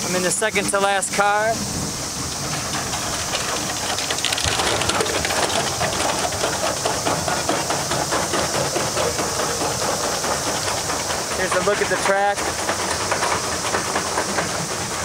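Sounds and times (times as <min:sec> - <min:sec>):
roller coaster rattling on track: 0:00.0 - 0:15.0
wind hiss: 0:00.0 - 0:15.0.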